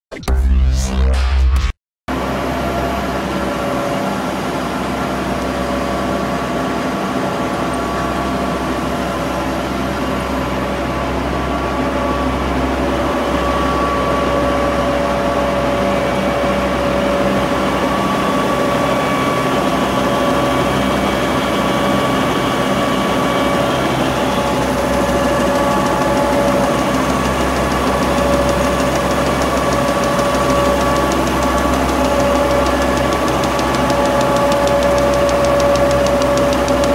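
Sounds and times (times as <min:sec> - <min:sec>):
printing press drone: 0:02.1 - 0:36.9.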